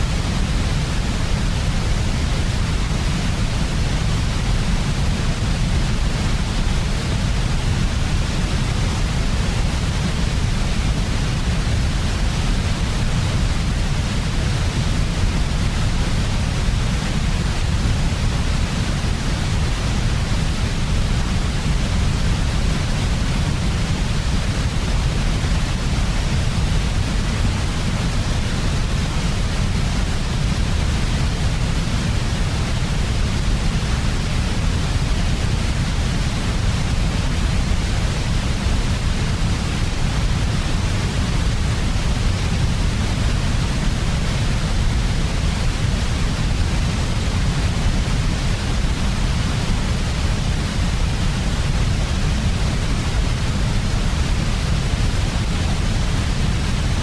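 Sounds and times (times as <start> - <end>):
white noise hiss with low rumble: 0.0 - 57.0.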